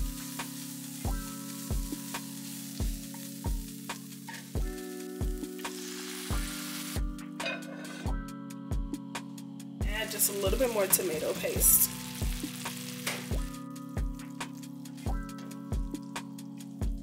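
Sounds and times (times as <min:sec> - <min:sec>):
food sizzling in a pan: 0:00.0 - 0:08.2, 0:09.9 - 0:17.0
background music with beat: 0:00.0 - 0:17.0.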